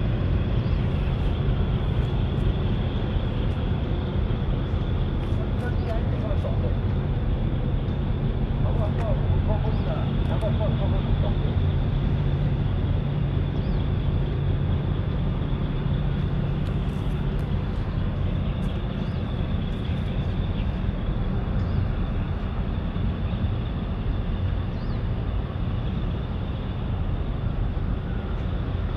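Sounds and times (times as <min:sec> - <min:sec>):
distant engine noise: 0:00.0 - 0:28.9
wind: 0:00.0 - 0:28.9.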